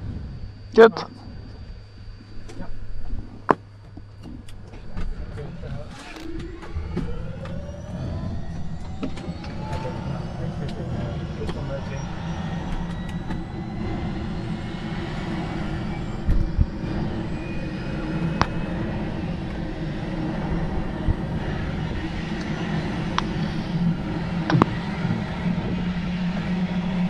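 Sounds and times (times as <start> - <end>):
helicopter engine and rotor hum: 0.0 - 27.0.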